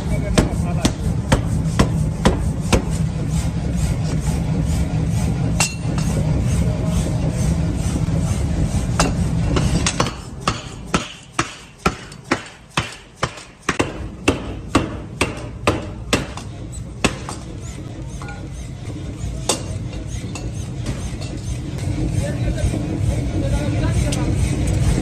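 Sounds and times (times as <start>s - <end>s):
low machine drone: 0.0s - 25.0s.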